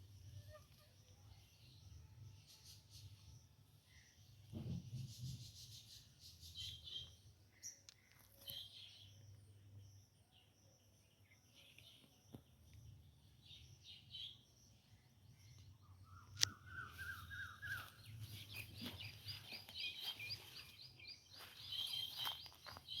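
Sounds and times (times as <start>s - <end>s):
birds calling and chirping: 0.2s - 23.0s.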